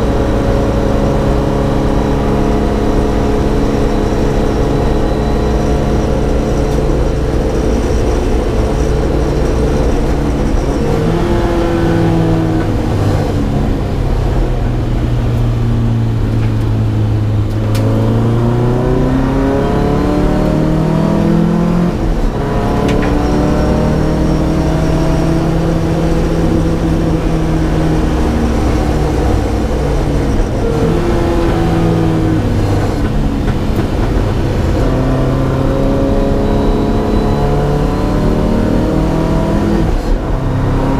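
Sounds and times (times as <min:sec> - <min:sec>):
rally car engine revving: 0:00.0 - 0:40.9.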